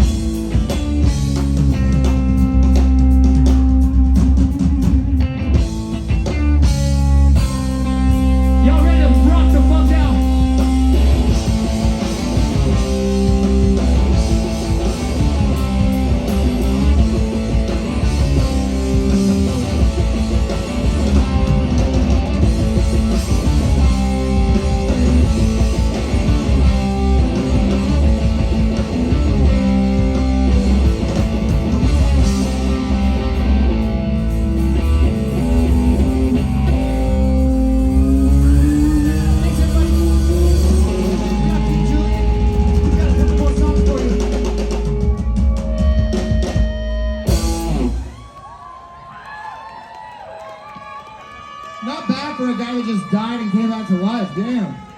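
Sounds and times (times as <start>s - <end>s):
drum kit: 0.0s - 48.3s
bass guitar: 0.0s - 48.4s
electric guitar lines: 0.0s - 48.4s.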